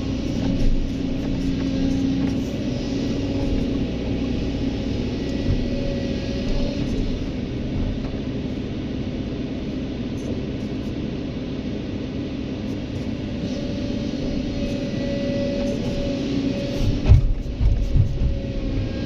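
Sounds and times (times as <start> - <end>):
faint steady whine: 0.0 - 19.0
heavy diesel engine rumbling: 0.0 - 19.0.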